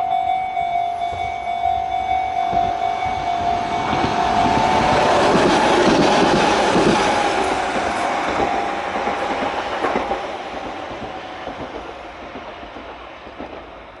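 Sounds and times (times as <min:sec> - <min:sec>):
electric train running: 0:00.0 - 0:13.8.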